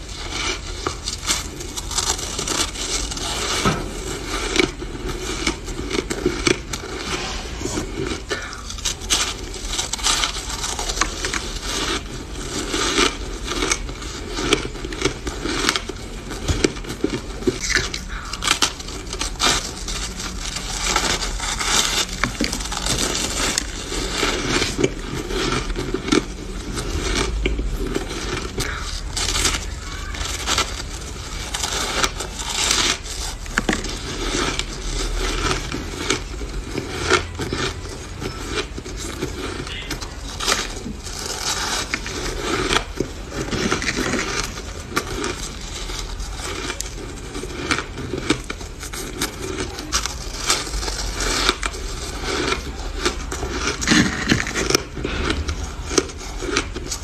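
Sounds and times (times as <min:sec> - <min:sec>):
chewing crunchy shaved ice: 0:00.0 - 0:57.0.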